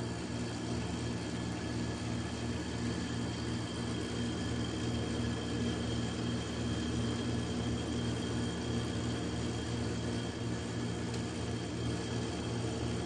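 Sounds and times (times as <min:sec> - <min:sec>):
oven fan humming: 0:00.0 - 0:13.0.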